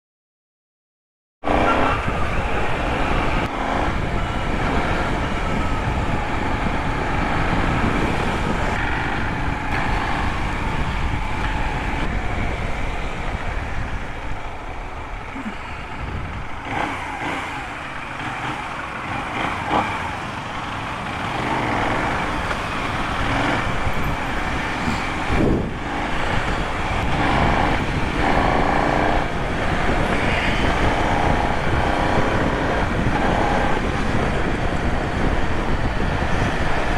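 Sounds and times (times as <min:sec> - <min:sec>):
motorcycle engine revving: 0:01.4 - 0:36.9.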